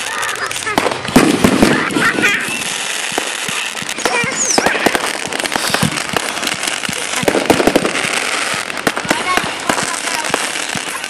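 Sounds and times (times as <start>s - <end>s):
fireworks crackling and banging: 0.0s - 11.0s
spark fountain hissing: 0.0s - 11.0s.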